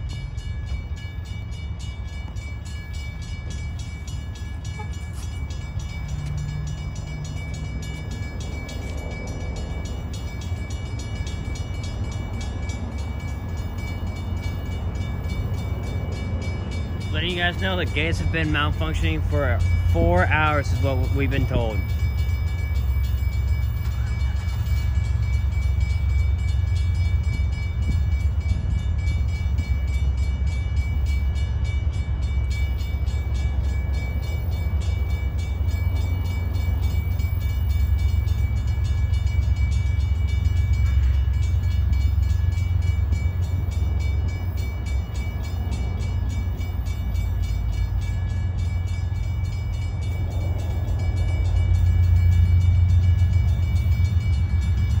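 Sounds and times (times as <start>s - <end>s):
crossing warning bell ringing: 0.0s - 55.0s
diesel locomotive engines rumbling: 0.0s - 55.0s.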